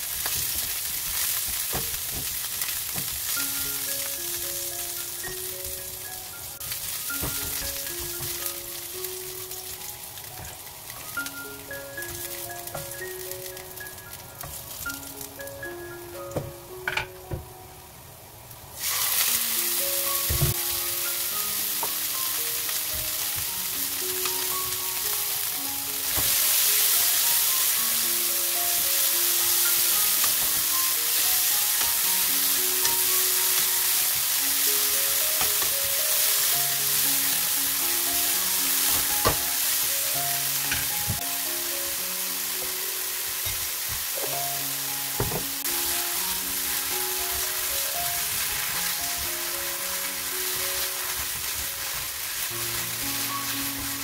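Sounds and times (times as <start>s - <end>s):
meat sizzling in hot oil: 0.0s - 16.1s, 18.8s - 54.0s.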